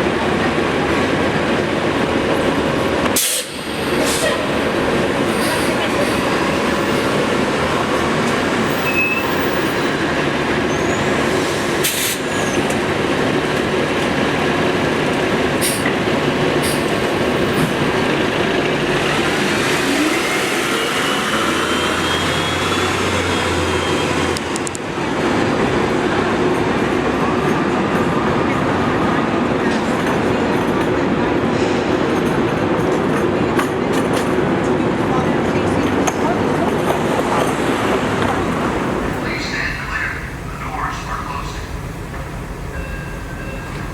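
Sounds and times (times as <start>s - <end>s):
train rumble and rail noise: 0.0s - 43.9s.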